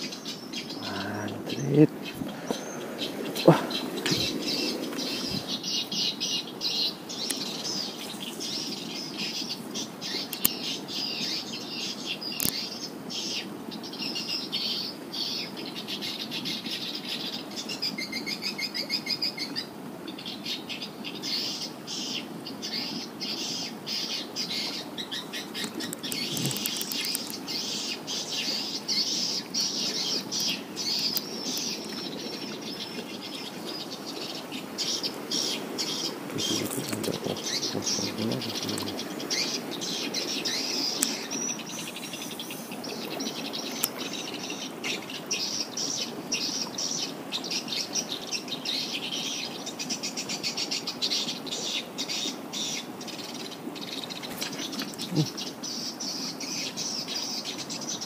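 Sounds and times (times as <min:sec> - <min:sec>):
low background hiss: 0:00.0 - 0:58.0.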